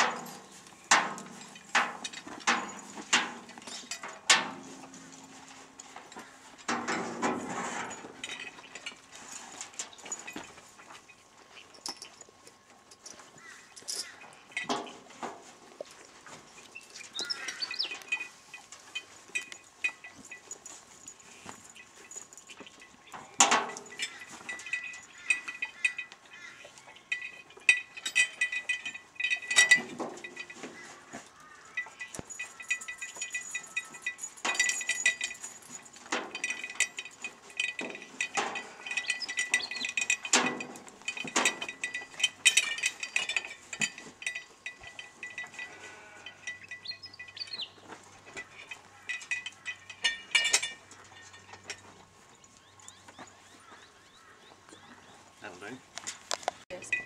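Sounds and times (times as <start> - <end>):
harness chains clinking and jingling: 0.0 - 54.3, 56.6 - 57.0.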